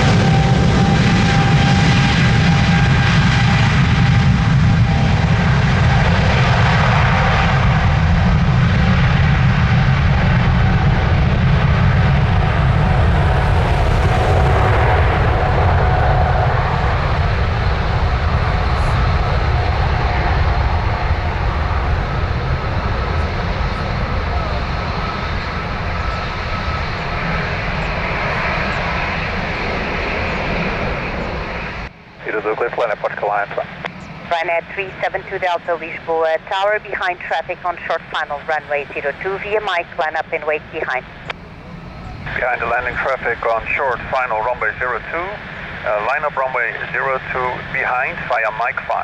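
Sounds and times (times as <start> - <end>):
faint turbine whine: 0.0 - 49.0
jet engines roaring: 0.0 - 49.0.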